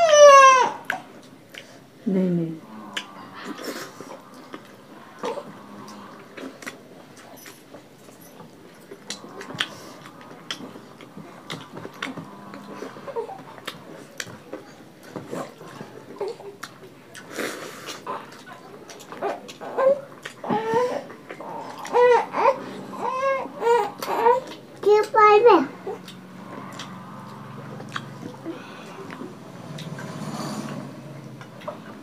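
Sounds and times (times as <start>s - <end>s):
people chewing and smacking: 0.7s - 32.0s.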